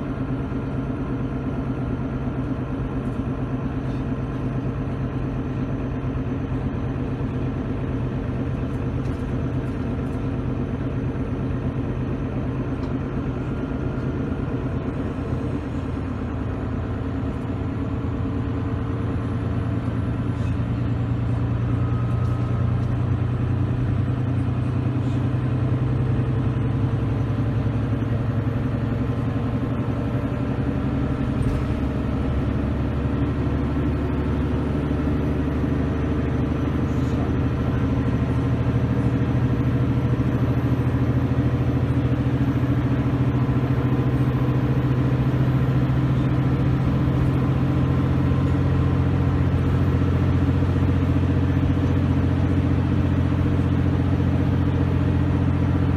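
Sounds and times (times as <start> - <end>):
diesel engine drone: 0.0 - 55.9
faint turbo whine: 0.0 - 55.9.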